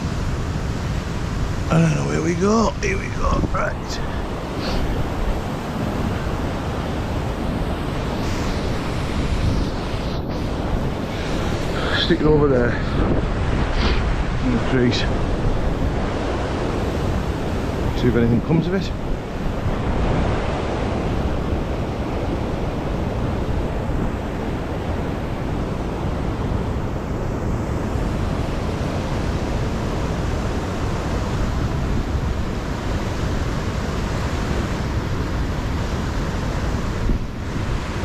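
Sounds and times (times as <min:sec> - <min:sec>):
river water rushing: 0:00.0 - 0:38.0
wind on microphone: 0:00.0 - 0:38.0.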